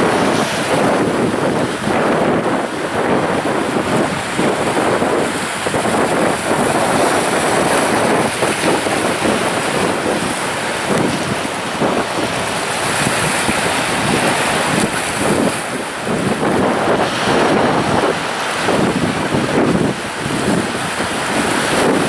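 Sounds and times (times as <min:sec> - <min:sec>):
waves breaking over rocks: 0:00.0 - 0:22.0.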